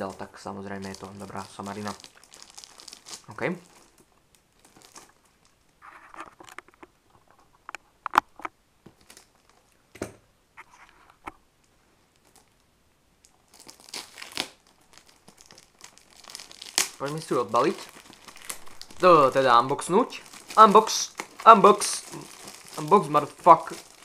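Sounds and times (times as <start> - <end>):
cellophane wrap crinkling: 0.0 - 7.4, 8.9 - 9.8, 12.1 - 12.6, 13.2 - 24.0.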